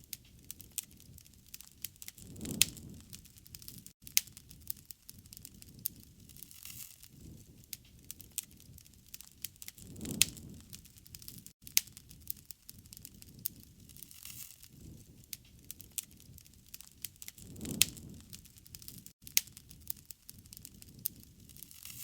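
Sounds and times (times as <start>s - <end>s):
campfire crackling and popping: 0.0s - 22.0s
soft rush of flame: 0.1s - 22.0s.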